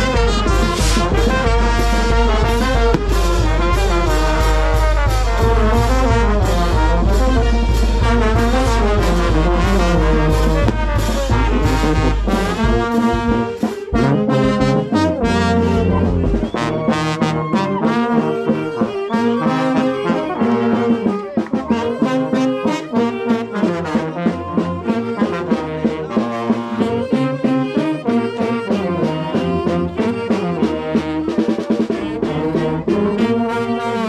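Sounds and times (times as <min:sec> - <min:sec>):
trumpets and trombones playing: 0:00.0 - 0:34.0.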